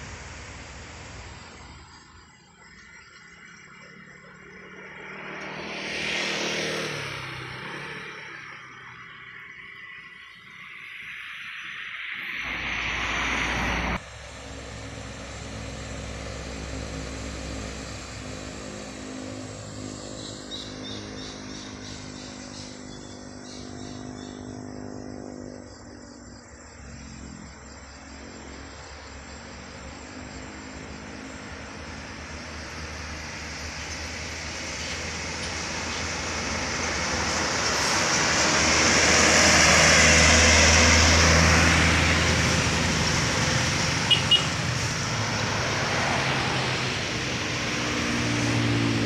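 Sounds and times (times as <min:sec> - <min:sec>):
traffic engine hum: 0:00.0 - 0:49.0
vehicles passing on road: 0:00.0 - 0:49.0.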